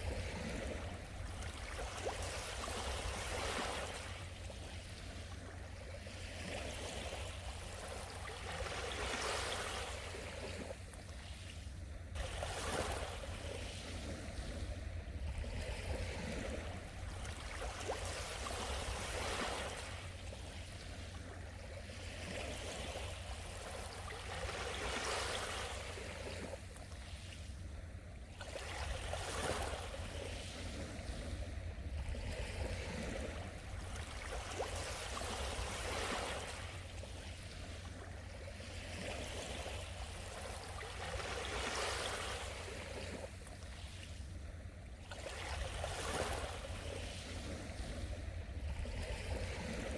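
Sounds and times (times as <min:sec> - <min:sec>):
small waves lapping on shore: 0:00.0 - 0:49.9.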